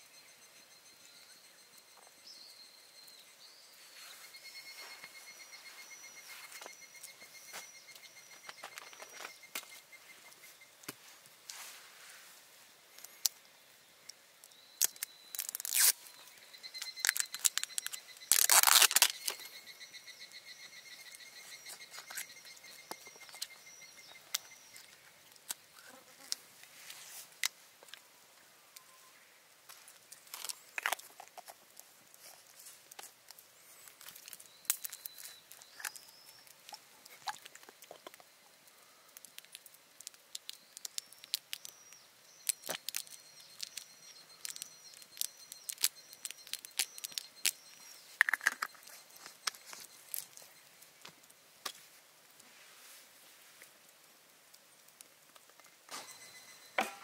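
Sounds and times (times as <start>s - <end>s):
insects trilling and chirping: 0.0s - 11.6s, 12.3s - 52.2s, 53.7s - 57.0s.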